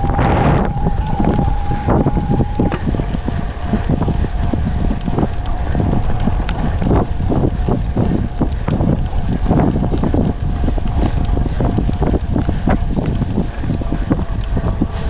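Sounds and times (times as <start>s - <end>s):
bike rattling on rough trail: 0.0s - 15.0s
wind buffeting microphone: 0.0s - 15.0s.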